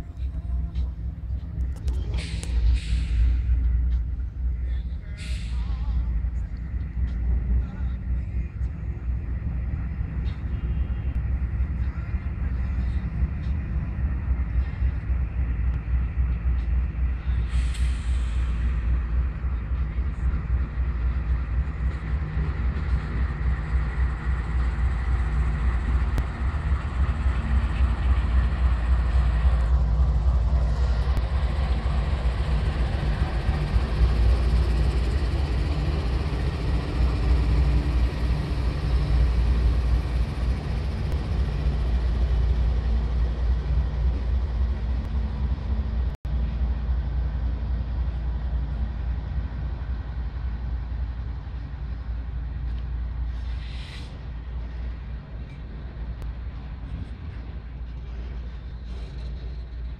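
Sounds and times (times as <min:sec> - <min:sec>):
freight cars rolling on rails: 0:00.0 - 0:59.9
locomotive engines rumbling: 0:00.0 - 0:59.9.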